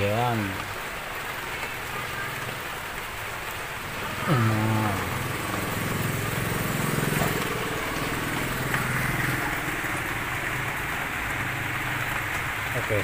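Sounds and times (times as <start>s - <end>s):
car engine idling: 2.4s - 13.0s.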